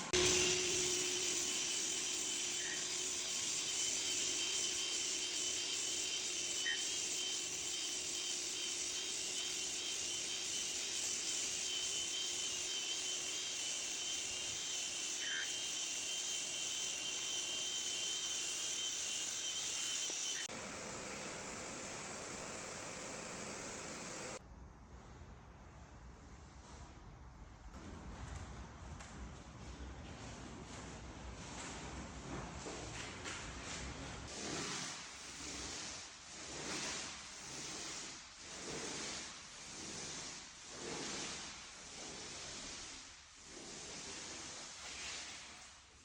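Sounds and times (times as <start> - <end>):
floor sanding machine whining: 0.0 - 24.4, 29.6 - 46.0.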